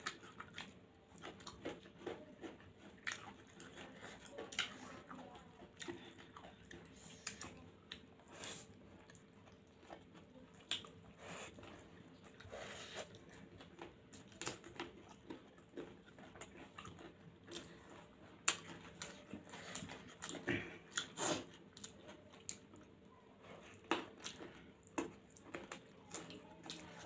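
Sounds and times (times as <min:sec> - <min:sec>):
people chewing noodles: 0:00.0 - 0:27.0.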